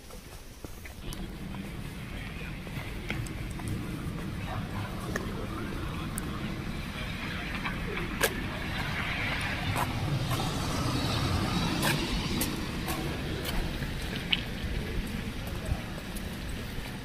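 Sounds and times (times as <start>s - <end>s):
low traffic rumble: 0.0s - 17.0s
car passing: 1.0s - 17.0s.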